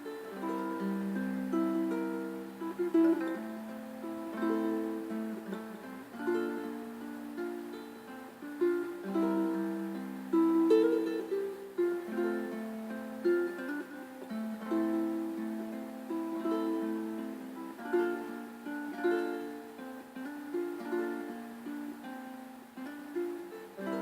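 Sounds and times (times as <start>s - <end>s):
plucked string instrument melody: 0.0s - 24.0s.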